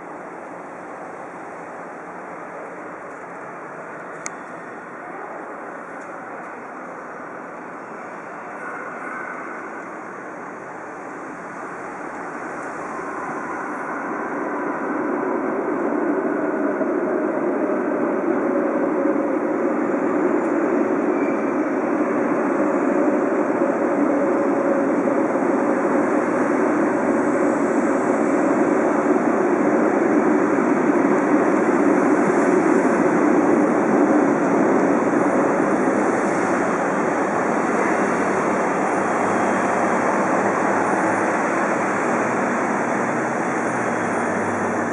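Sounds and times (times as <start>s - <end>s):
train rumbling into station: 0.0s - 44.9s.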